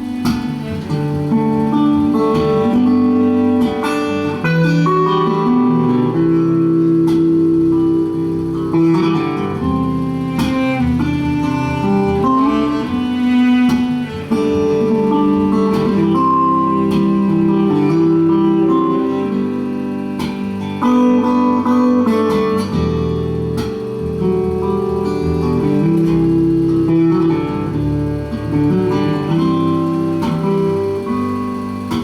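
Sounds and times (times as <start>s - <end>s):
acoustic guitar playing: 0.0s - 32.0s.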